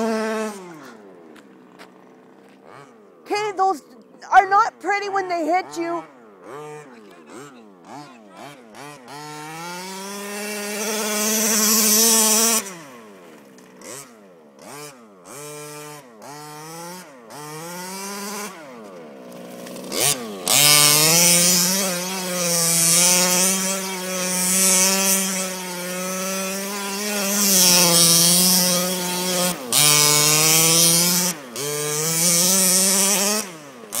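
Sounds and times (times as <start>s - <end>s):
small two-stroke engine revving: 0.0s - 34.0s.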